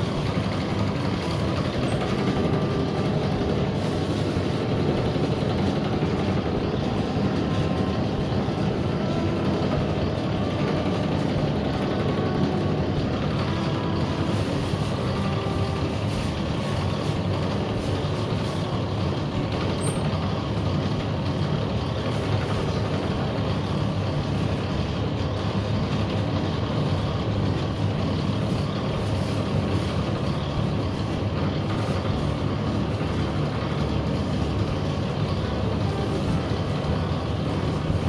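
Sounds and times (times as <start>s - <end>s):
machine motor humming: 0.0s - 38.0s.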